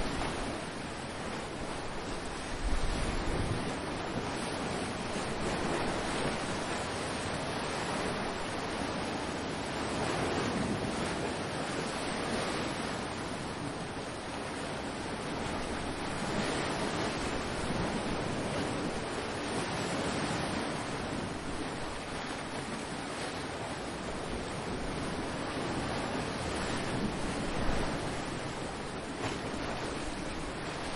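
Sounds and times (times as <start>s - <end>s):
wind on microphone: 0.0s - 14.2s, 15.1s - 30.9s
ocean waves washing ashore: 0.0s - 30.9s.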